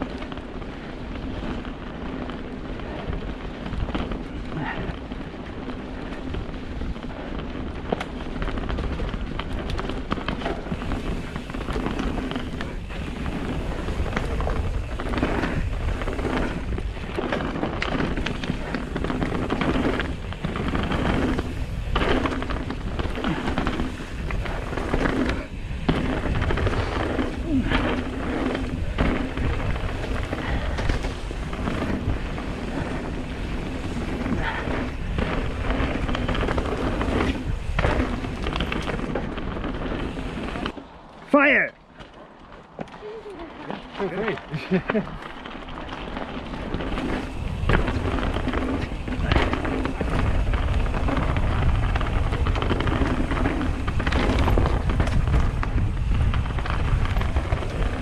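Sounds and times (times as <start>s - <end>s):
wind buffeting microphone: 0.0s - 41.1s, 42.3s - 58.0s
bike rattling over bumps: 0.0s - 58.0s
bike tyres crunching on gravel: 0.0s - 58.0s.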